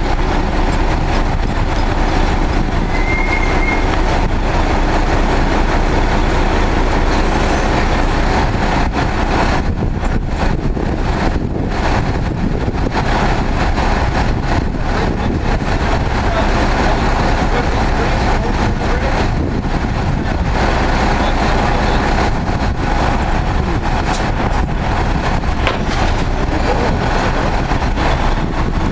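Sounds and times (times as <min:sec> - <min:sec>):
heavy truck engines running: 0:00.0 - 0:28.9.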